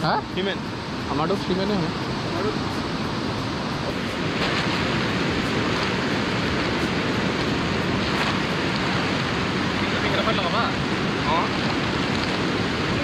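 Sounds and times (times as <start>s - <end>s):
river flowing: 0.0s - 13.0s
wind blowing on microphone: 0.0s - 13.0s.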